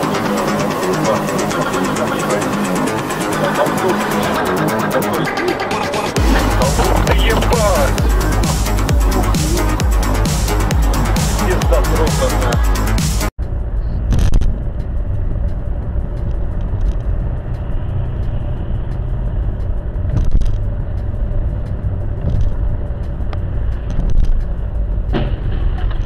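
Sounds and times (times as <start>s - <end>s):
car engine and tyre rumble: 0.0s - 12.6s, 13.3s - 26.0s.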